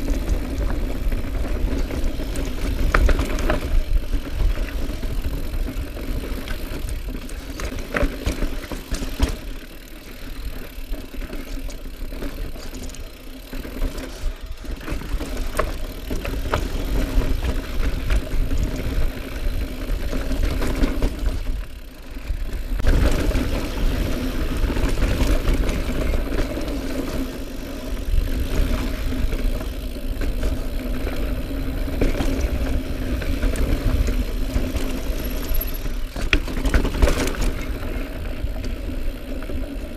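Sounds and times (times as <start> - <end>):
bike rattling and knocking: 0.0 - 39.9
bike tyres on rocky dirt: 0.0 - 39.9.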